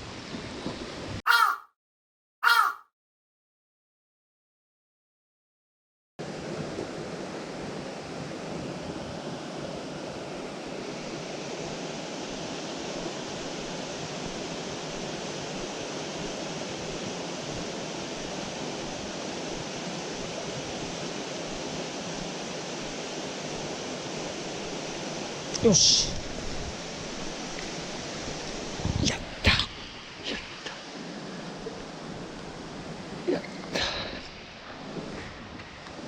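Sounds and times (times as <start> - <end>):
mountain stream rushing: 6.2 - 36.0.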